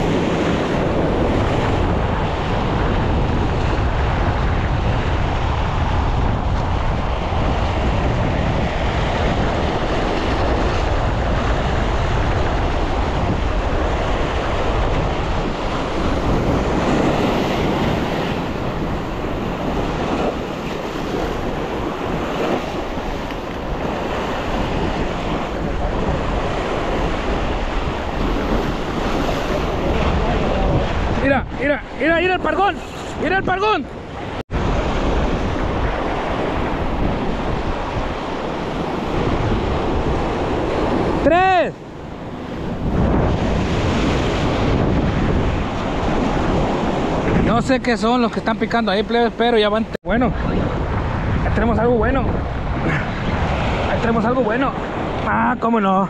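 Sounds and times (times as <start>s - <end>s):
surf breaking over rocks: 0.0s - 56.0s
wind buffeting microphone: 0.0s - 56.0s.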